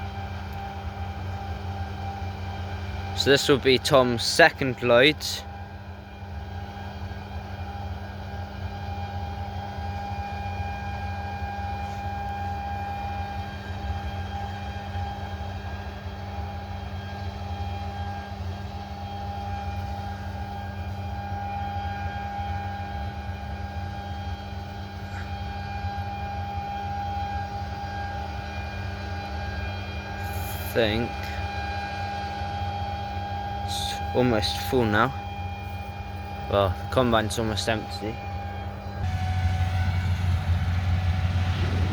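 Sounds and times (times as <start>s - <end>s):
combine harvester engine drone: 0.0s - 41.9s
steady mechanical whines: 0.0s - 41.9s.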